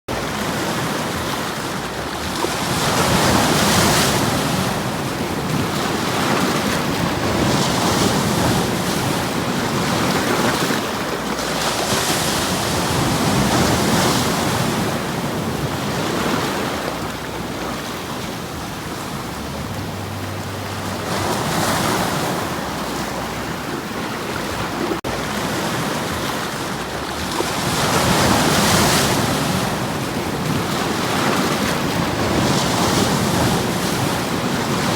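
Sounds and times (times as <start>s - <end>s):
sea waves breaking on shore: 0.1s - 34.9s.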